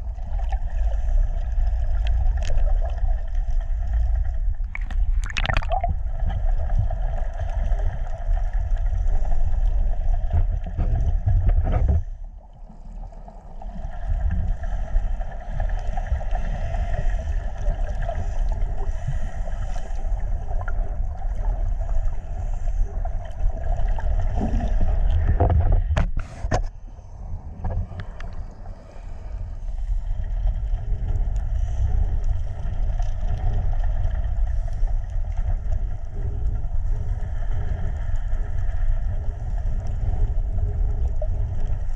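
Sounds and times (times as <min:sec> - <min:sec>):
boat engine hum underwater: 0:00.0 - 0:41.9
muffled underwater water rushing: 0:00.0 - 0:41.9.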